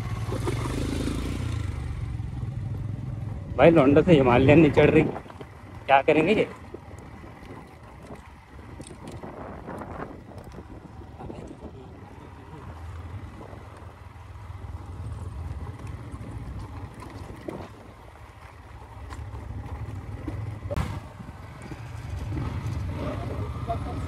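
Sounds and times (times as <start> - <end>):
motorcycle engine at low speed: 0.0 - 24.0
tyres rolling over rocky trail: 3.6 - 23.6.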